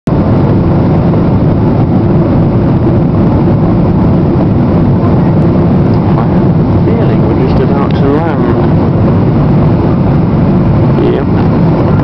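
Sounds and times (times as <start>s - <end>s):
jet engines rumbling: 0.1s - 12.0s
rushing air: 0.1s - 12.0s.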